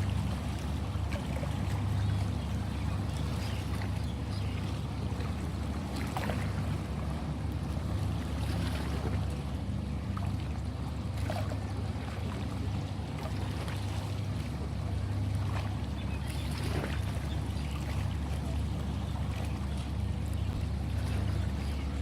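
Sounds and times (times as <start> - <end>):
faint water splashes: 0.0 - 22.0
ocean waves breaking: 0.0 - 22.0.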